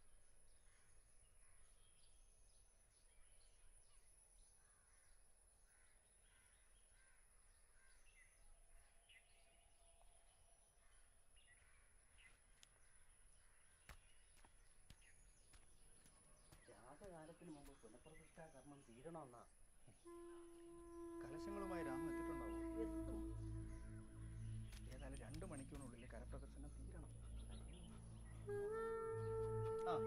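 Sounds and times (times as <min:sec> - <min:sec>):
soft bird chirps: 0:00.0 - 0:30.0.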